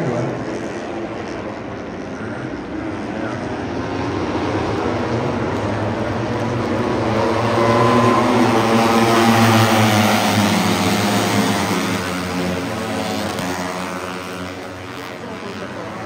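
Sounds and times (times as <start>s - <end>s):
racing motorcycles passing at high revs: 0.0s - 16.0s.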